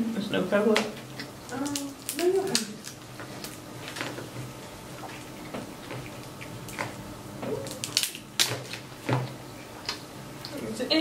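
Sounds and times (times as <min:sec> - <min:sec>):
chewing and mouth noises: 0:01.0 - 0:10.6.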